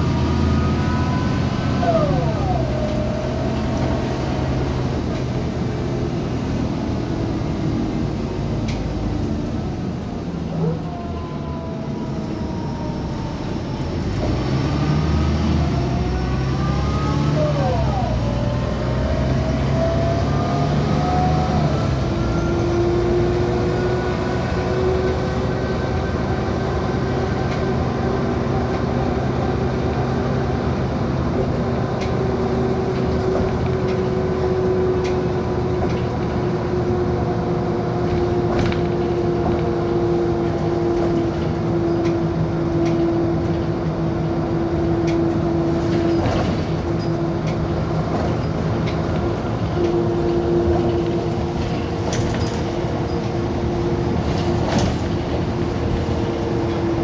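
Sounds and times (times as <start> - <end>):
bus engine drone with whine: 0.0 - 57.0.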